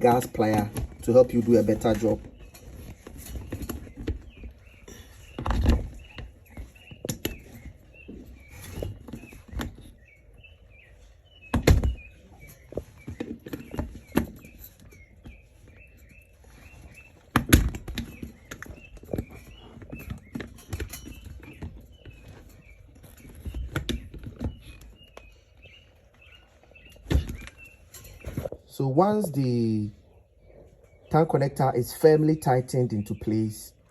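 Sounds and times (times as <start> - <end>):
knocks and handling thumps: 0.0 - 28.7
birds chirping faintly: 0.0 - 33.9.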